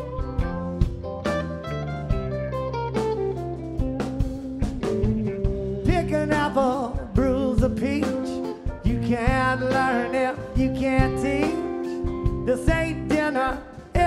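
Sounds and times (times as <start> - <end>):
low accompaniment: 0.0 - 13.2
drums: 0.0 - 14.0
lead melody with bending notes: 0.0 - 14.0.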